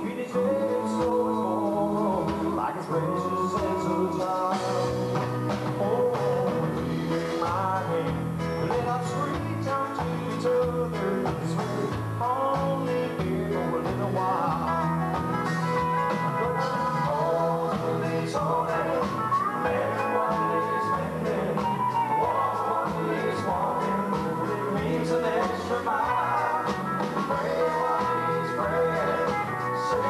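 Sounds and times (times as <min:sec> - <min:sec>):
bass guitar: 0:00.0 - 0:30.0
electric guitar: 0:00.0 - 0:30.0.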